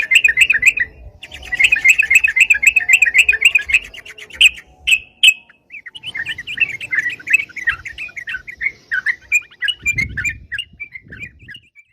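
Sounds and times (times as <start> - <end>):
bird singing rapid chirps: 0.0 - 11.9.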